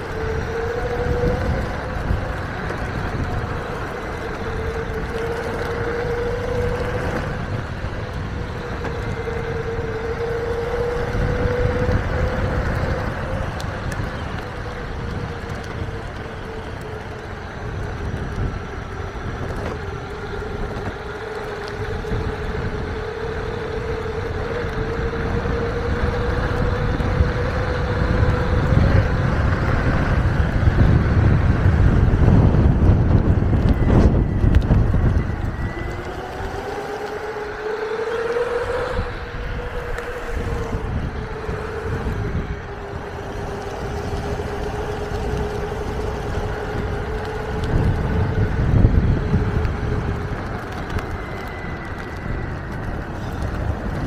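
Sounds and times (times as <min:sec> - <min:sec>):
electric motor whining: 0:00.0 - 0:54.0
tyre rumble on asphalt: 0:00.0 - 0:54.0
wind on microphone: 0:00.0 - 0:54.0.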